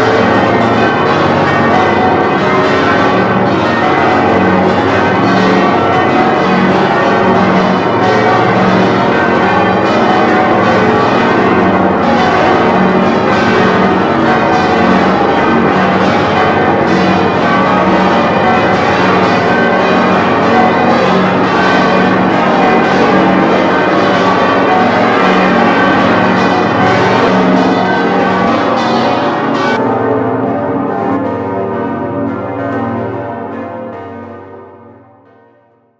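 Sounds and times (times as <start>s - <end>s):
church bells pealing: 0.0s - 35.7s.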